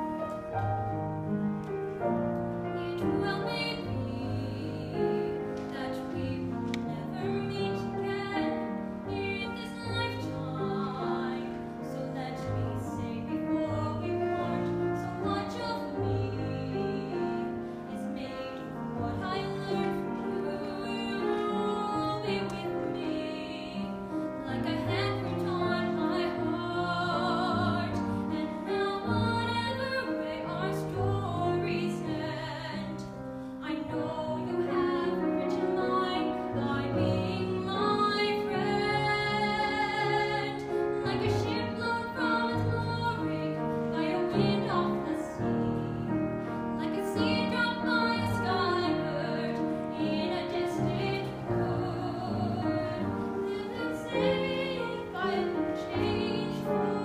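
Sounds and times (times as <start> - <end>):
grand piano accompaniment: 0.0 - 57.0
girls singing: 2.8 - 57.0.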